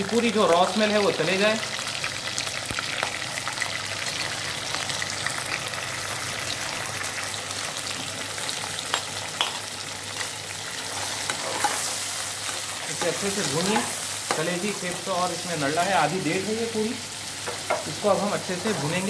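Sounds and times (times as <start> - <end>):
meat sizzling in hot oil: 0.0 - 19.0.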